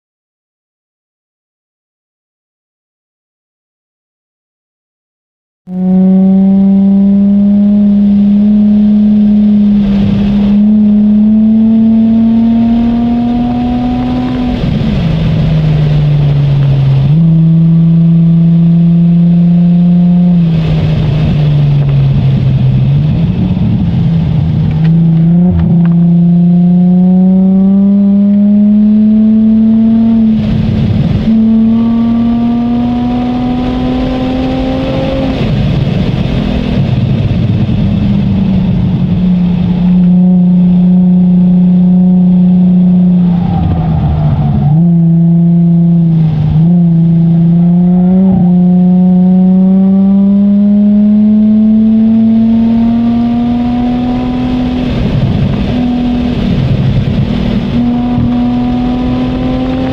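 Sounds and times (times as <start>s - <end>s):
car engine accelerating: 5.7s - 59.9s
wind and tyre noise: 5.7s - 59.9s.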